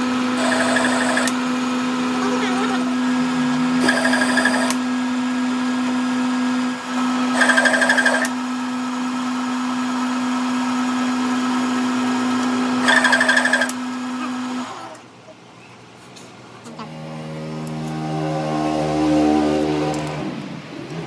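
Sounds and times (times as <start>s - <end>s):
power tool motor running: 0.0s - 15.1s, 16.8s - 21.0s.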